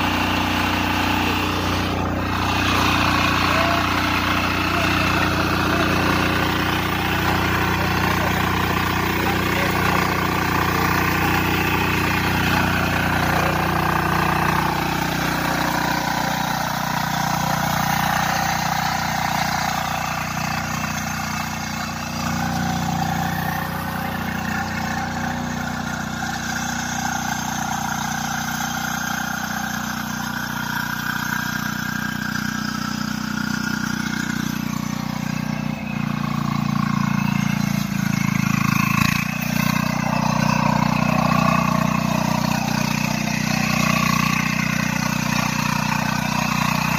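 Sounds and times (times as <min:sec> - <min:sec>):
diesel weeder engine running: 0:00.0 - 0:46.9.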